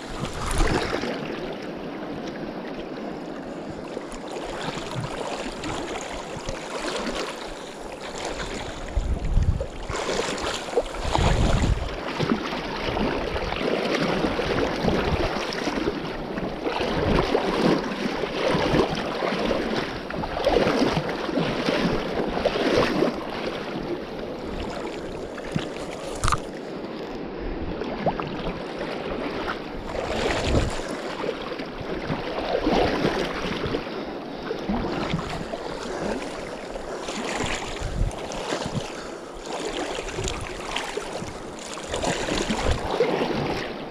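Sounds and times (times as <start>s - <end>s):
river water rushing and splashing: 0.0s - 43.9s.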